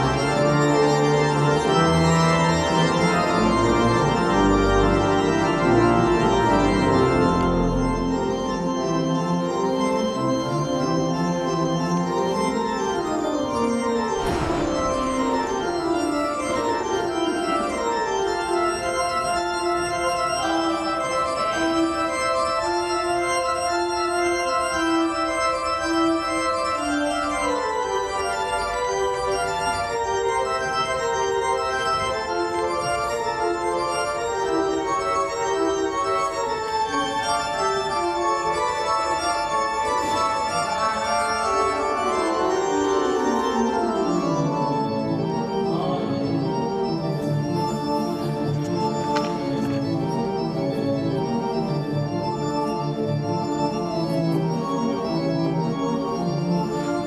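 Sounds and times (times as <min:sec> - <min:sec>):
solo organ playing: 0:00.0 - 0:57.0.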